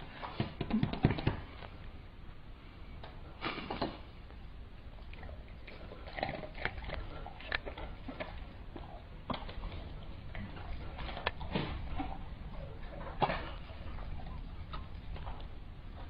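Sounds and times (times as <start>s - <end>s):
dog chewing food: 3.0s - 16.0s.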